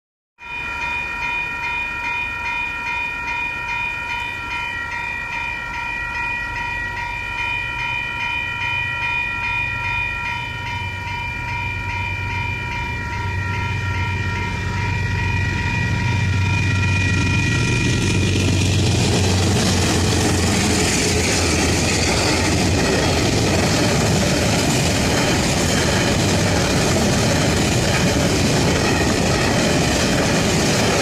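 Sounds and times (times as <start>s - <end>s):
level crossing warning bells: 0.4s - 31.0s
low rumble of train: 0.4s - 31.0s.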